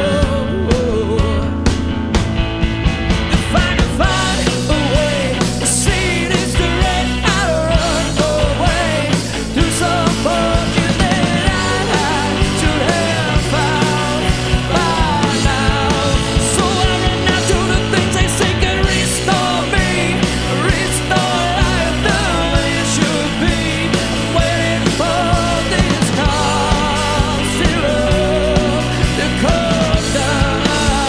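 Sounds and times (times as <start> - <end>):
rock band playing live: 0.0 - 31.0
steady drum beat: 0.0 - 31.0
bending lead melody: 1.5 - 31.0.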